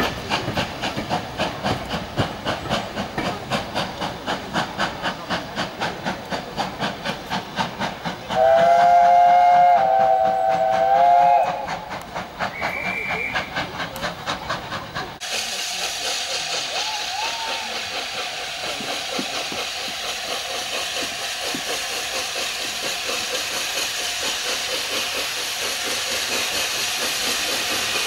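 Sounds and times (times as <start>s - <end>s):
steam locomotive exhaust beats: 0.0s - 28.0s.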